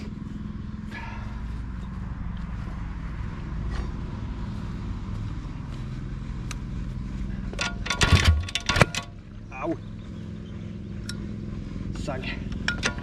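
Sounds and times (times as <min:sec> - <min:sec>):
motorbike engine idling: 0:00.0 - 0:13.0.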